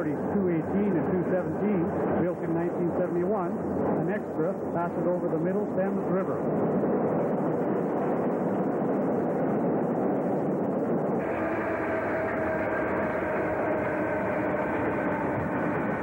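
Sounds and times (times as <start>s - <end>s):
freight train rumbling: 0.0s - 16.0s
steady whining tones: 0.0s - 16.0s.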